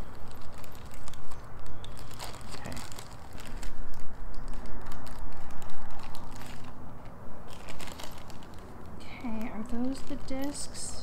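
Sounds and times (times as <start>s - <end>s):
light clicks and crinkling: 0.0s - 11.0s.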